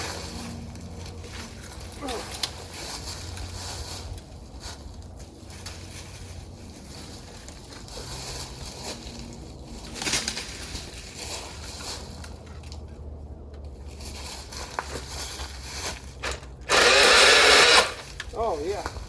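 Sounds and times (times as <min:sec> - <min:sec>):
wood crackling as limbs are cut: 0:00.0 - 0:19.0.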